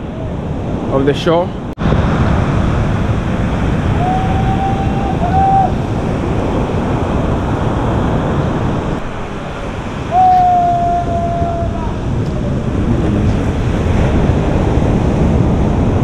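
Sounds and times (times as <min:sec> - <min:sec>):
wind on microphone: 0:00.0 - 0:16.0
surf breaking: 0:01.8 - 0:16.0.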